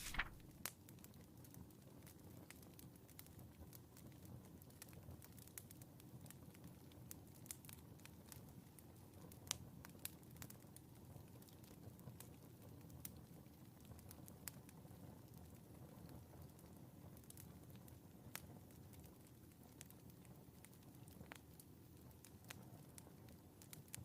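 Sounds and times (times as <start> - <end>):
wood fire crackling and popping: 0.0 - 0.4, 1.8 - 24.0.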